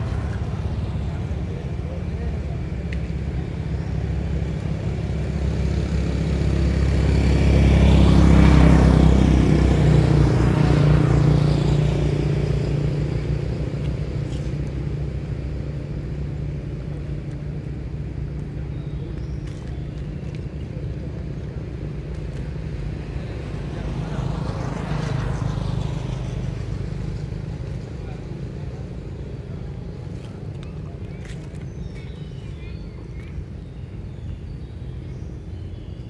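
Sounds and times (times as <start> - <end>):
vehicle passing on road: 0.0 - 36.0.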